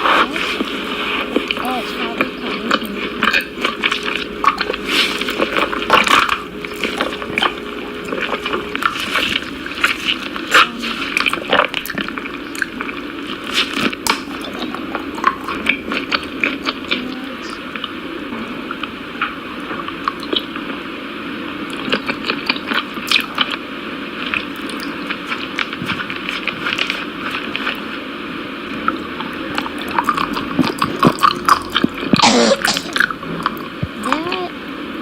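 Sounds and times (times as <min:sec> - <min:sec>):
wet squishing of food being chewed: 0:00.0 - 0:18.0, 0:18.7 - 0:20.7, 0:21.6 - 0:23.6, 0:24.2 - 0:34.4.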